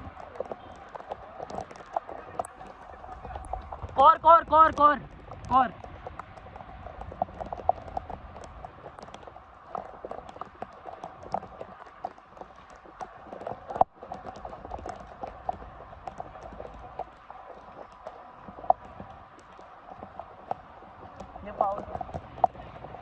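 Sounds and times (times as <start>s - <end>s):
raindrops tapping on hard surface: 0.0s - 23.0s.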